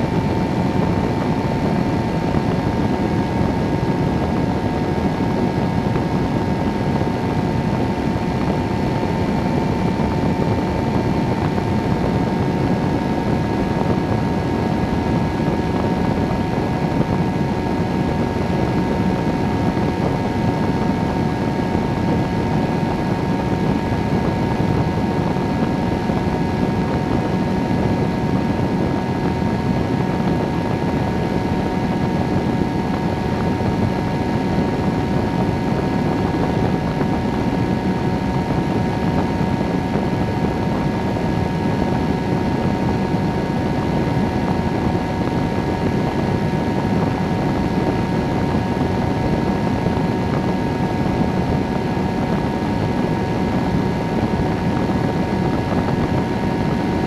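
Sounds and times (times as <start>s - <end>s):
aircraft engine and propeller drone: 0.0s - 57.0s
wind rushing over microphone: 0.0s - 57.0s.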